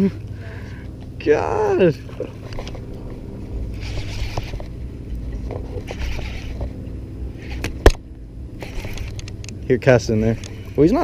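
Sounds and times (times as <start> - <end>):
low rumble: 0.0 - 11.0
fishing reel whirring: 1.3 - 8.0, 8.6 - 11.0.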